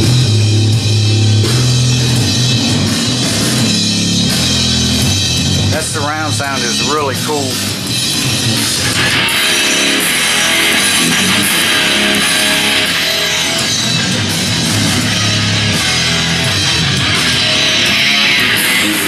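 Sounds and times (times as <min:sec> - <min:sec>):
rock music over speakers: 0:00.0 - 0:19.0.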